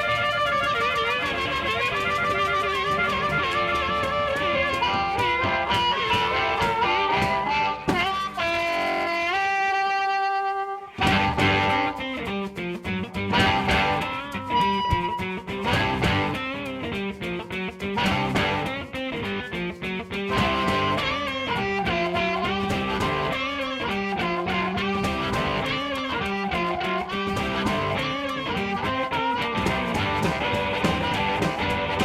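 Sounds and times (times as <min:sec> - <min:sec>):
electric guitar band music: 0:00.0 - 0:32.0.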